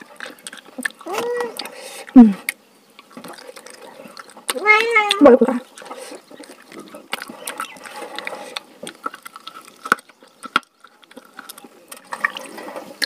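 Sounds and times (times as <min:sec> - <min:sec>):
chewing and mouth sounds: 0:00.0 - 0:13.0.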